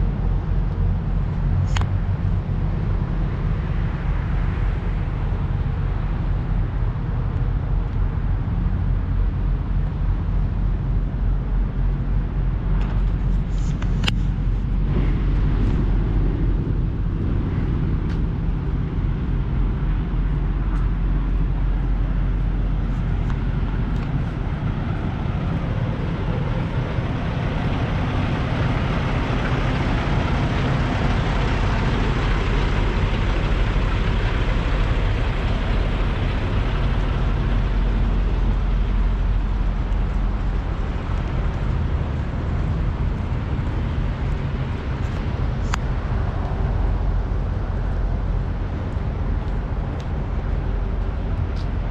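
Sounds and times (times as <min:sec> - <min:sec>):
broad rushing noise: 0:00.0 - 0:51.9
diesel truck engines idling: 0:00.0 - 0:51.9.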